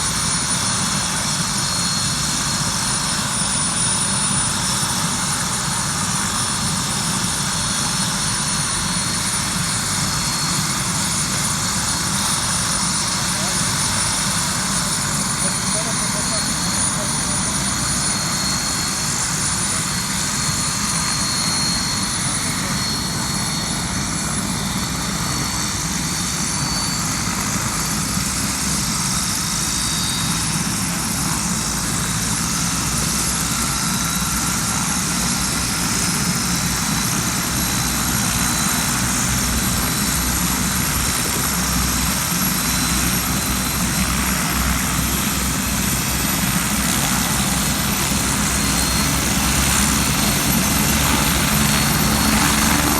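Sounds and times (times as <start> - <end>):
helicopter rotor and turbine whine: 0.0 - 52.9.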